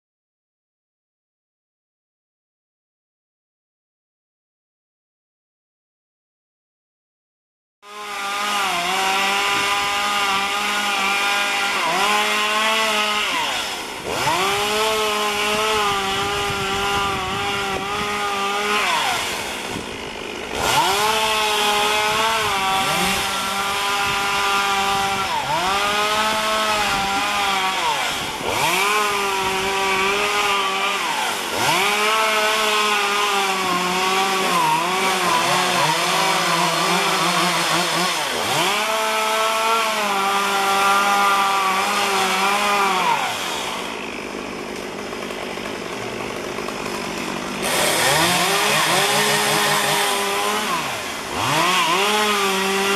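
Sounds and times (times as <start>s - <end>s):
chainsaw revving: 7.8s - 52.9s.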